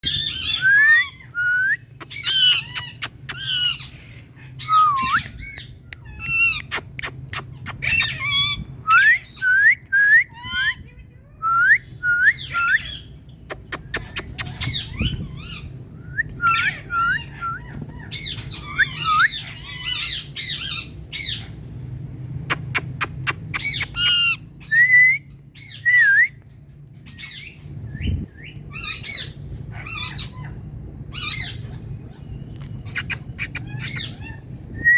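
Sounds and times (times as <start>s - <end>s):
parrot chirps and squawks: 0.0s - 9.4s, 12.3s - 21.7s, 22.4s - 24.8s, 26.7s - 34.8s.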